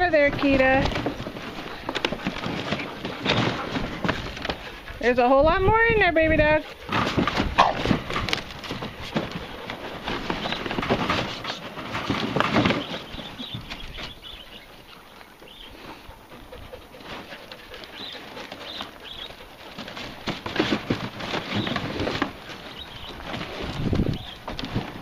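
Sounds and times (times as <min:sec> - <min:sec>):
cardboard boxes rustling and crumpling: 0:00.1 - 0:05.0, 0:06.8 - 0:14.9, 0:16.9 - 0:25.0.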